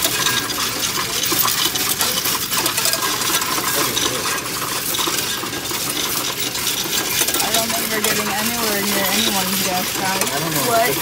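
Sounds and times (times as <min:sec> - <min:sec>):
coins clattering in a machine: 0:00.0 - 0:11.0.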